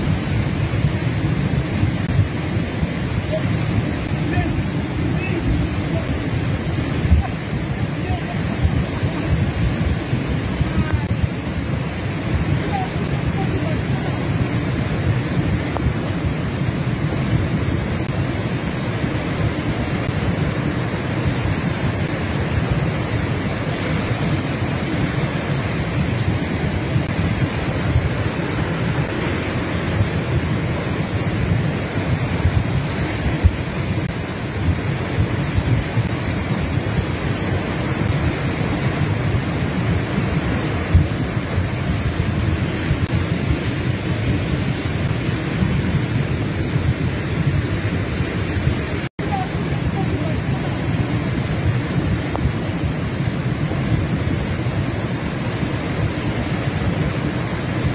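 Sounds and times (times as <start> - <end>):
flooded creek rushing: 0.0 - 57.9
heavy rain falling: 0.0 - 57.9.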